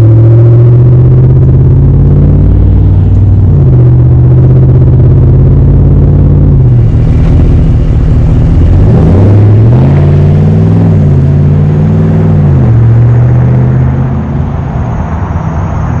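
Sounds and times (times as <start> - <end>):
engine idling and revving: 0.0 - 16.0.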